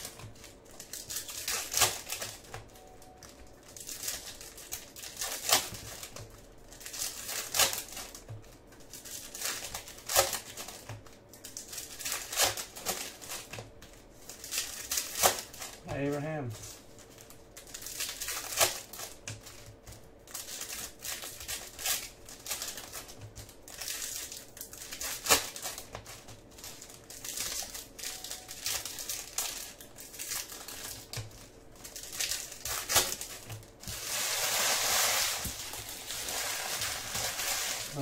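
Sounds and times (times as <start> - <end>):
foil wrappers crinkling: 0.0 - 38.0
wrappers crumpling: 0.0 - 38.0.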